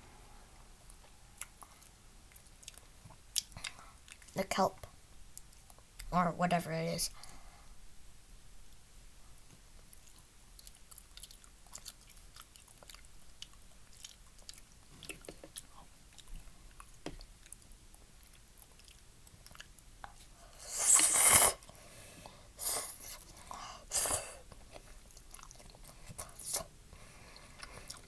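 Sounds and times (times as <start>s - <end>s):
quiet chewing: 0.8s - 4.4s, 5.3s - 6.1s, 8.7s - 28.0s.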